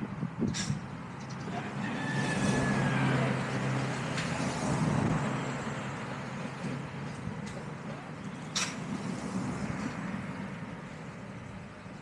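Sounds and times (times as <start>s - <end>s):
cars and motorbikes passing: 0.0s - 12.0s.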